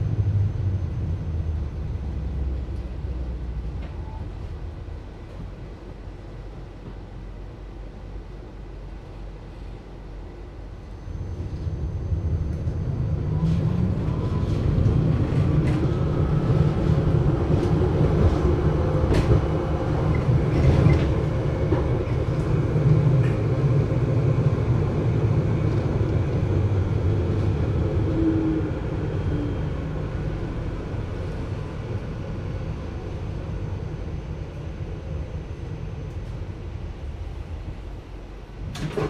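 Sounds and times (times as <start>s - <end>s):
tram muffled low rumble: 0.0s - 39.0s.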